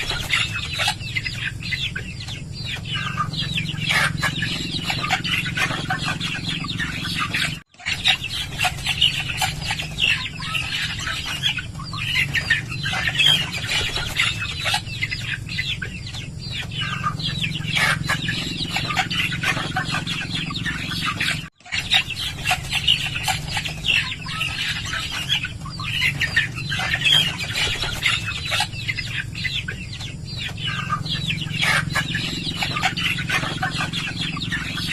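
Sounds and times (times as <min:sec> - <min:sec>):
chickens clucking: 0:00.0 - 0:34.9
steady low hum: 0:00.0 - 0:34.9.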